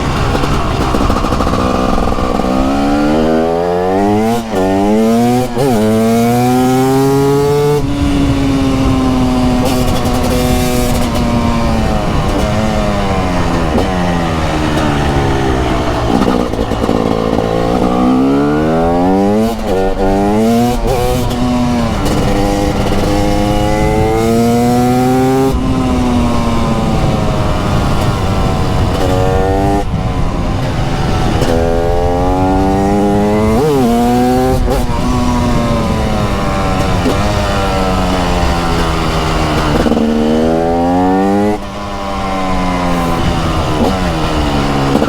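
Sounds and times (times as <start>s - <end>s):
two-stroke motorcycle engine revving: 0.0s - 45.0s.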